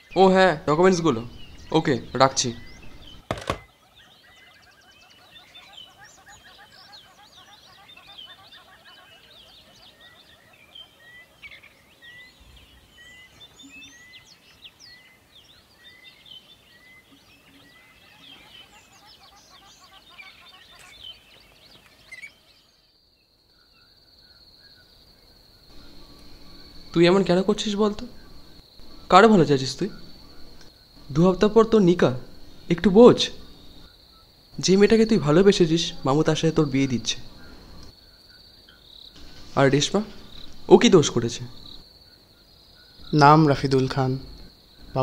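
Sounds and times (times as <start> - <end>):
crickets trilling: 0.0 - 45.0
small birds chirping: 0.0 - 45.0.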